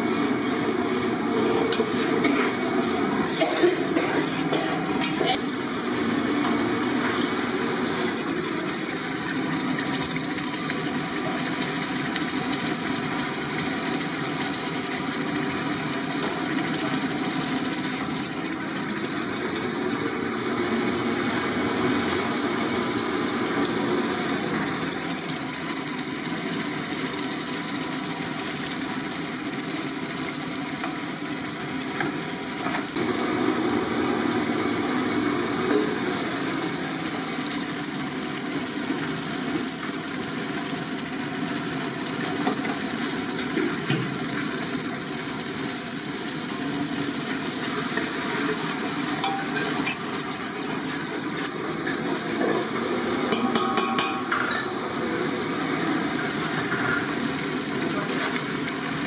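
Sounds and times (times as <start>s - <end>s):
curry boiling in pot: 0.0s - 59.0s.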